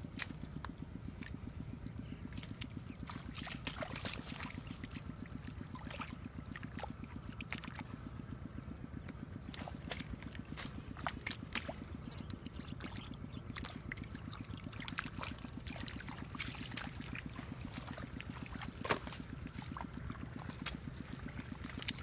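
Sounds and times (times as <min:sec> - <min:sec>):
small engine running: 0:00.0 - 0:22.0
water splashes and drips: 0:02.3 - 0:07.9, 0:09.5 - 0:22.0.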